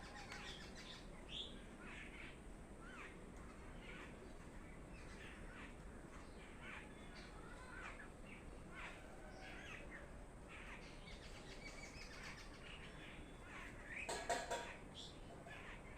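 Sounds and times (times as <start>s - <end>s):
garden birds chirping: 0.0s - 15.9s
low background noise: 0.0s - 15.9s.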